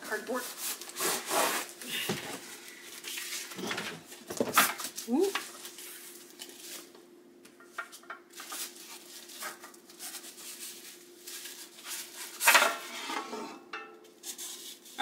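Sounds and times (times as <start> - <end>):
bubble wrap and cardboard rustling: 0.0 - 7.0, 7.8 - 13.0, 14.2 - 15.0.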